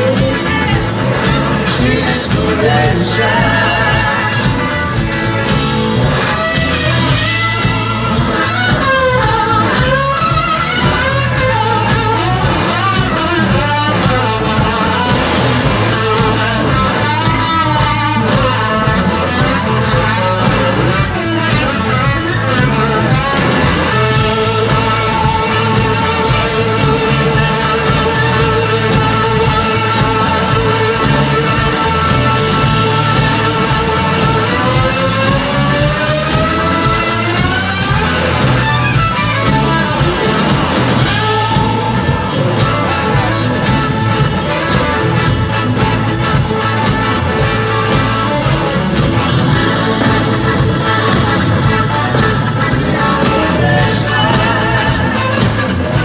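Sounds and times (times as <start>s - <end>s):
electric guitar bending notes: 0.0s - 56.0s
live rock band playing: 0.0s - 56.0s.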